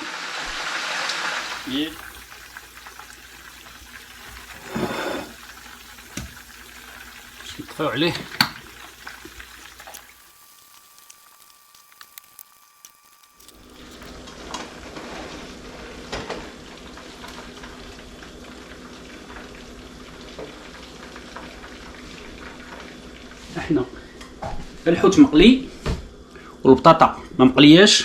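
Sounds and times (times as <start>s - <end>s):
fish sizzling in hot oil: 0.0s - 24.1s.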